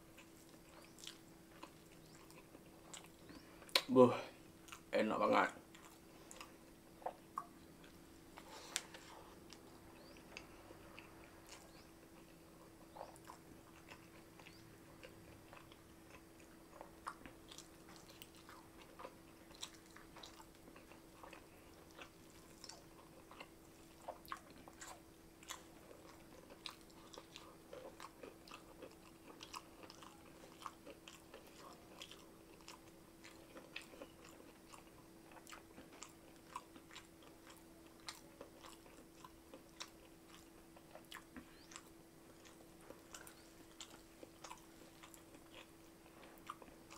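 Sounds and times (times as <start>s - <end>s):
faint steady hum: 0.0s - 46.9s
person chewing with wet smacks: 0.1s - 3.9s, 4.6s - 46.9s.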